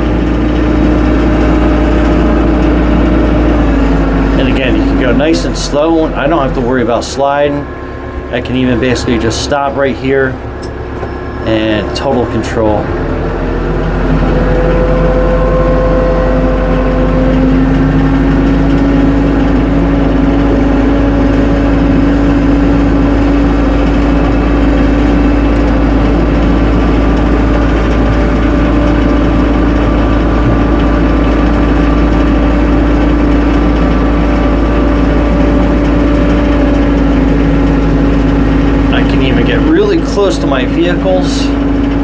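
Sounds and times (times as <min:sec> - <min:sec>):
steady whine: 0:00.0 - 0:42.0
tractor engine running: 0:00.0 - 0:42.0.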